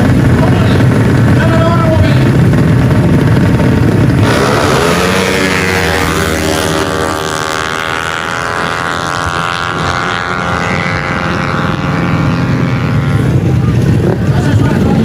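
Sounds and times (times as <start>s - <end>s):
scooter engine revving high: 0.0s - 15.0s.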